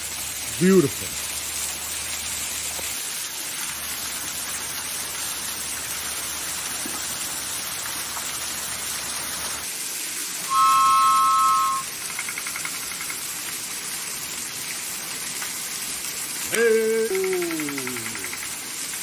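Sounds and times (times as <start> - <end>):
waterfall splashing onto rocks: 0.0 - 19.0.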